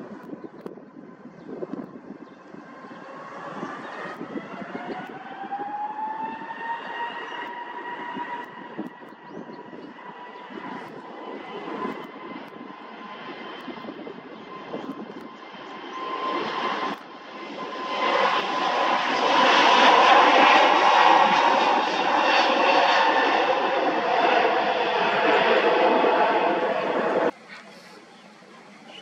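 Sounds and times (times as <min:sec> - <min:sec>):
jet rumble: 0:00.0 - 0:29.0
jet engine whine rising: 0:01.0 - 0:28.1.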